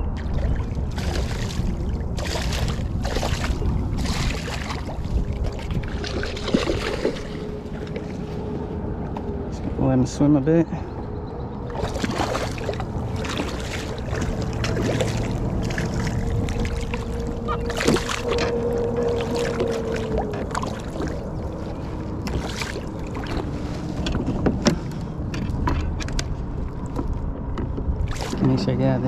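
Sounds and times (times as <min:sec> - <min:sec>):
water sloshing against kayak: 0:00.0 - 0:09.6, 0:10.9 - 0:28.7.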